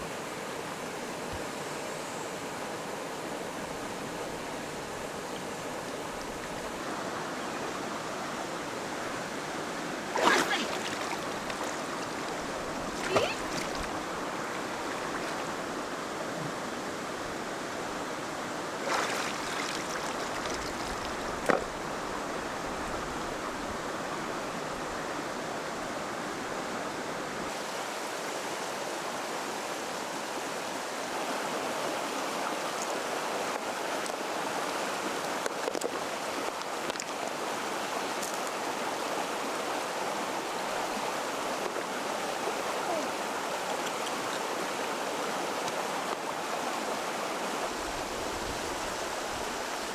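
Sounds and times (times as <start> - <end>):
flowing water rushing: 0.0 - 49.9.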